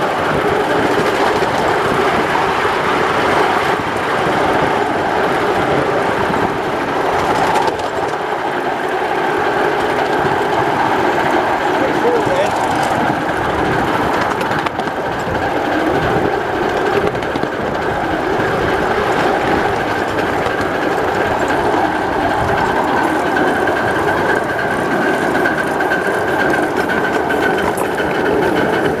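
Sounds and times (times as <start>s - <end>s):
model locomotive running on rails: 0.0s - 29.0s.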